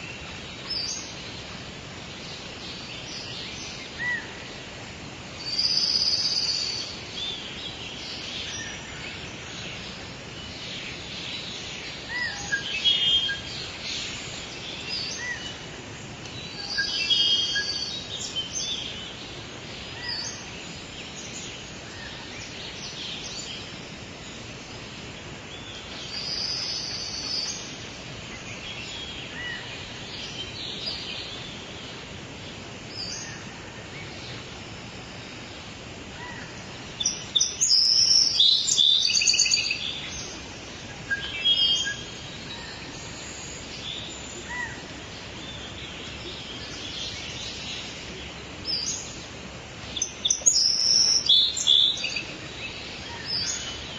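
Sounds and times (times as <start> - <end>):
background hiss: 0.0 - 53.9
songbirds chirping: 0.0 - 53.9.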